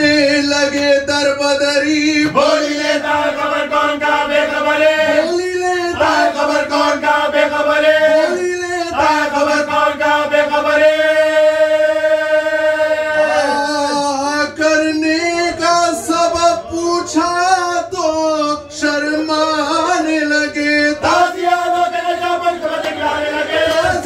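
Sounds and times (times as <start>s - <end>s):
men chanting a lament: 0.0s - 24.0s.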